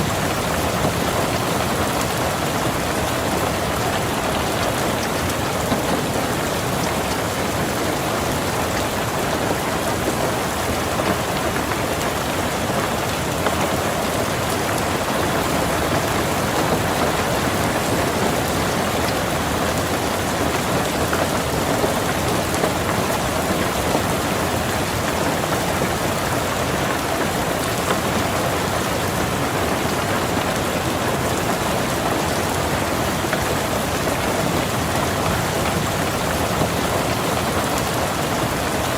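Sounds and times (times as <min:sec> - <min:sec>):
rain falling on car: 0:00.0 - 0:38.9.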